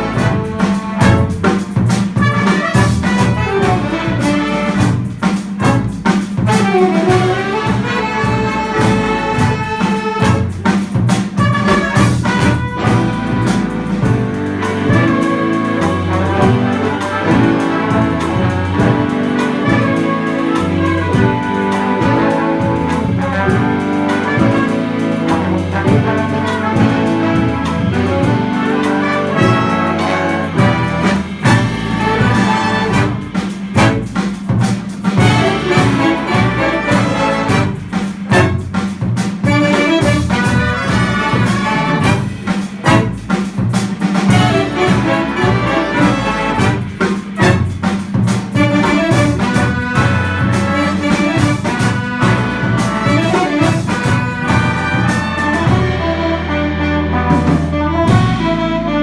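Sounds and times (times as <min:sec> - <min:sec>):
steady drum beat: 0:00.0 - 0:56.5, 0:57.2 - 0:59.0
jazz brass section playing: 0:00.0 - 0:59.0.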